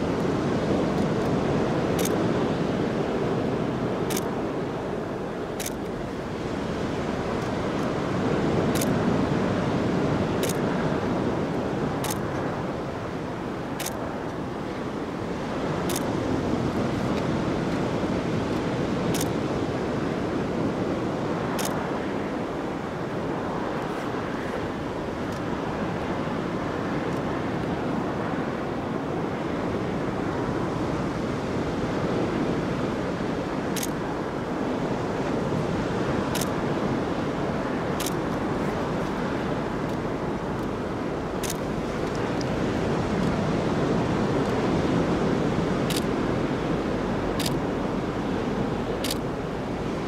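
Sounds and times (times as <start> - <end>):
ocean surf: 0.0 - 50.0
wind on microphone: 0.0 - 50.0.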